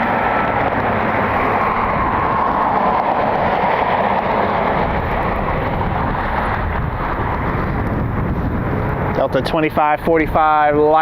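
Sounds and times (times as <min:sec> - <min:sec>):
jet aircraft engine roar: 0:00.0 - 0:11.0.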